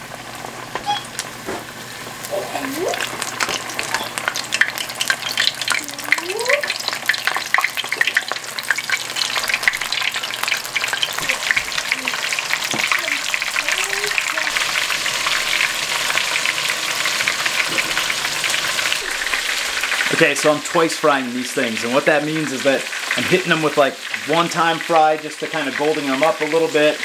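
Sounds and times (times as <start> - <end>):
deep-frying crackling sizzle: 0.0 - 27.0.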